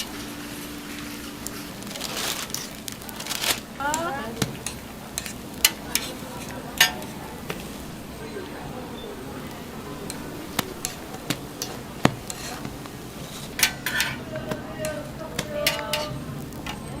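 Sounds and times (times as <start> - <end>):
metal utensils clinking on griddle: 0.0 - 17.0.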